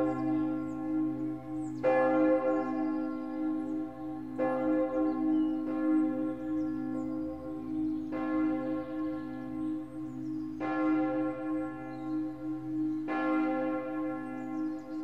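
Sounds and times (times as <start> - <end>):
large bell ringing: 0.0 - 15.0.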